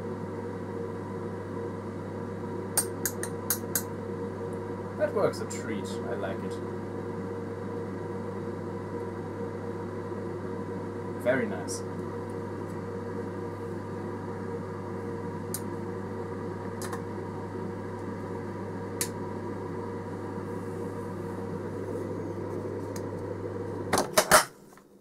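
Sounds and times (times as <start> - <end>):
fan humming with rushing air: 0.0 - 25.0.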